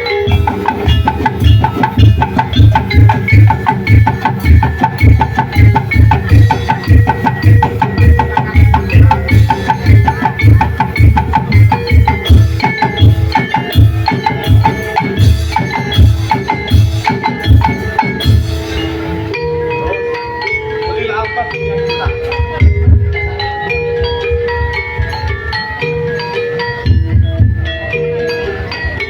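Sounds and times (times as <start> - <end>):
pitched percussion notes: 0.0 - 29.0.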